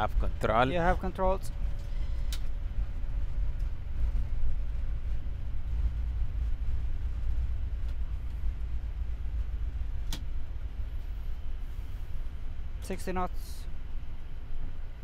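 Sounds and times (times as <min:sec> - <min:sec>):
aircraft cockpit rumble: 0:00.0 - 0:15.0.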